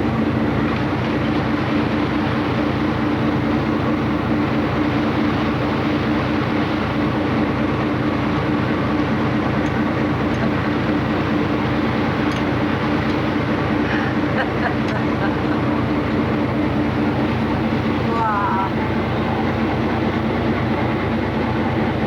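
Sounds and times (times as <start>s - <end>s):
ship engine droning: 0.0s - 22.0s.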